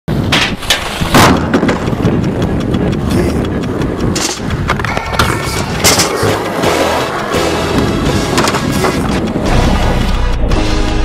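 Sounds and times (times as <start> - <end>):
skateboard clacking: 0.1 - 10.1
skateboard wheels rolling: 0.1 - 10.5.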